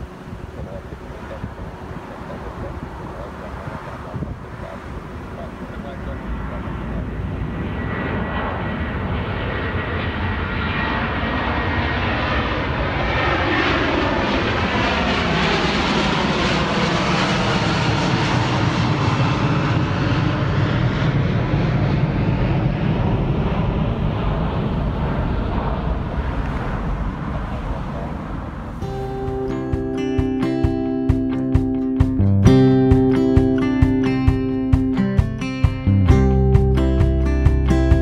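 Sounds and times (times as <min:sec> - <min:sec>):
jet airliner roaring overhead: 0:00.0 - 0:36.1.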